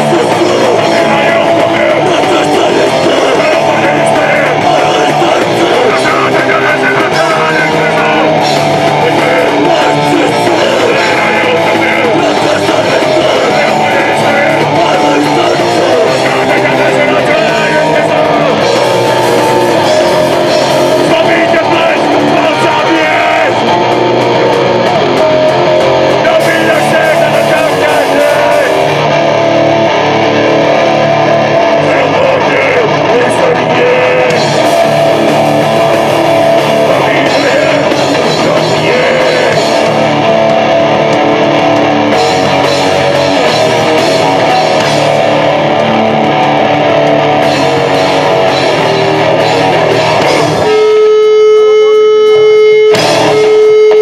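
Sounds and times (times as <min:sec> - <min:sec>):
person singing: 0:00.0 - 0:29.2, 0:30.7 - 0:54.0
live rock band playing: 0:00.0 - 0:54.0.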